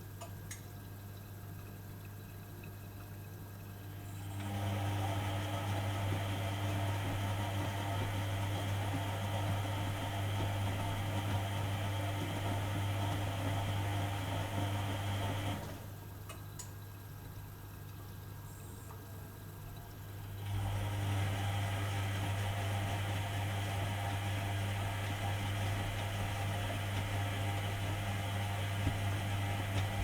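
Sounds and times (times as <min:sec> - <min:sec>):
washing machine motor humming: 0:00.0 - 0:30.0.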